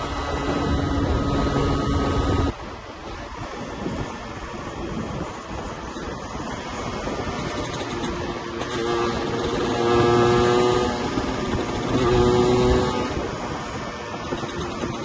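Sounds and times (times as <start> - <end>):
motorcycle engine running: 0.0 - 3.2, 3.8 - 15.0
wind and road noise: 0.0 - 15.0.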